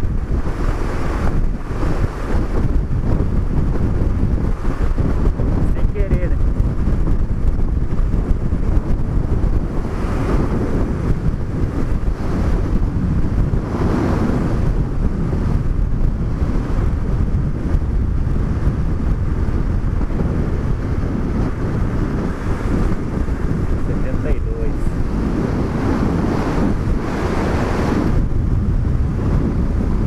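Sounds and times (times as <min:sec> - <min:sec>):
motorcycle running: 0:00.0 - 0:30.0
wind rushing on microphone: 0:00.0 - 0:30.0.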